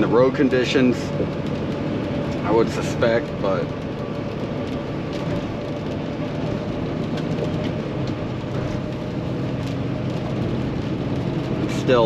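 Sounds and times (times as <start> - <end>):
rain and wet road noise: 0.0 - 12.0
truck diesel engine drone: 0.0 - 12.0.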